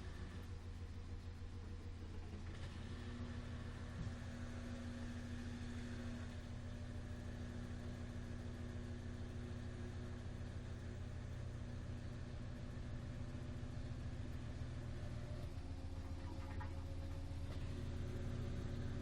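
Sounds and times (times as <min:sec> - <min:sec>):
washer-dryer motor hum: 0:00.0 - 0:19.0.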